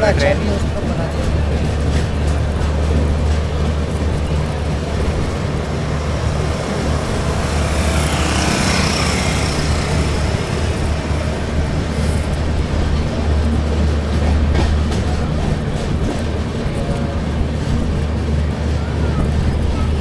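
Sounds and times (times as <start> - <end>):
express train rumbling: 0.0 - 20.0.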